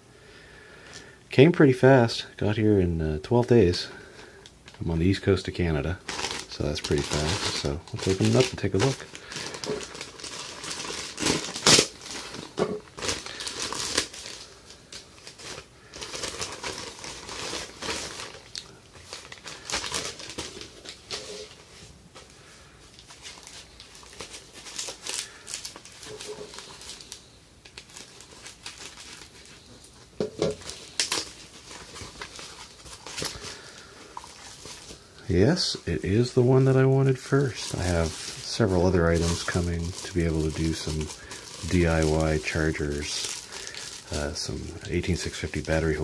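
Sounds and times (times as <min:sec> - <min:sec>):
plastic packaging crinkling: 0:04.6 - 0:46.0
plastic bag ripping: 0:06.0 - 0:21.6, 0:23.2 - 0:29.7, 0:30.4 - 0:46.0.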